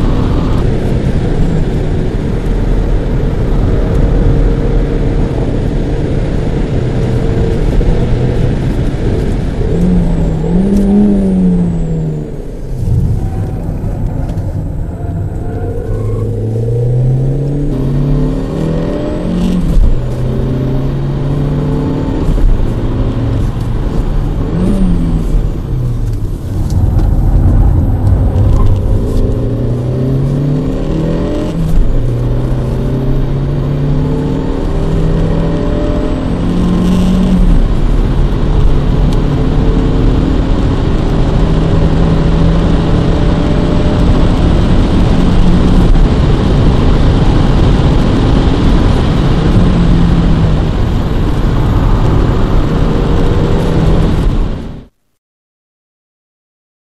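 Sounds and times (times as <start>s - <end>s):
car engine revving: 0.0s - 55.0s
tyre and road noise: 0.0s - 55.0s.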